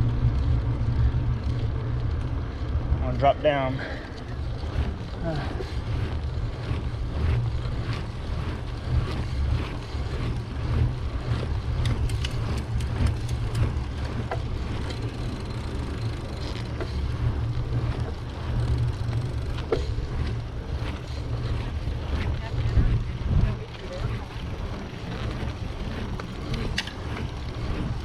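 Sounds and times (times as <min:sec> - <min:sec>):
bicycle clicks and rattles: 0:00.0 - 0:28.0
tyre and road noise: 0:00.0 - 0:28.0
wind buffeting microphone: 0:00.0 - 0:28.0.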